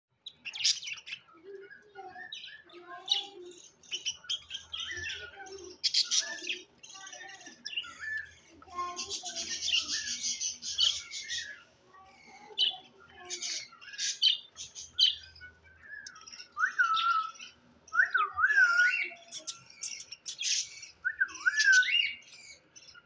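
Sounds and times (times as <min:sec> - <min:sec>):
budgerigars chirping: 0:00.2 - 0:23.0.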